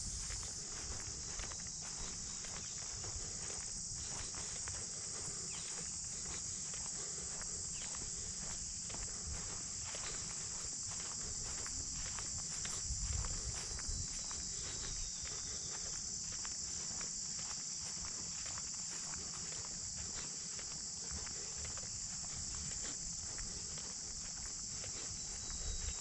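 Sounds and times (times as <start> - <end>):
footsteps crunching on trail: 0.0 - 26.0
insects chorus: 0.0 - 26.0.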